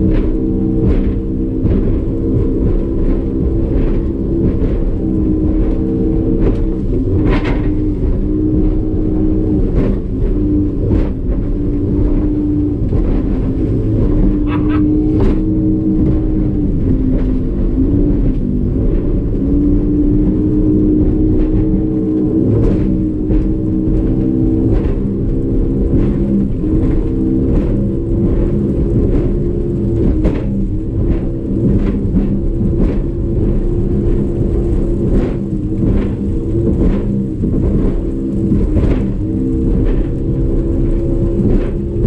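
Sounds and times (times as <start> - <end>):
boat thumps and splashes: 0.0 - 42.0
outboard motor droning: 0.0 - 42.0.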